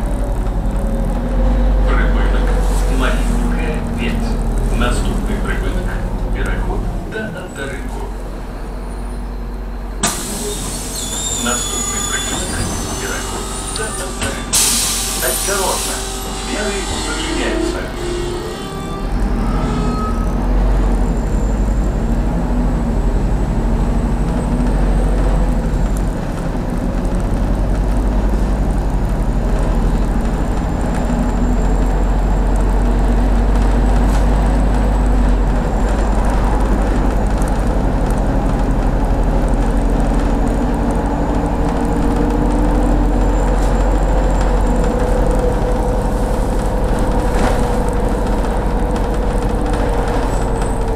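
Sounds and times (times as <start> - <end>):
bus engine drone: 0.0 - 50.9
road noise: 0.0 - 50.9.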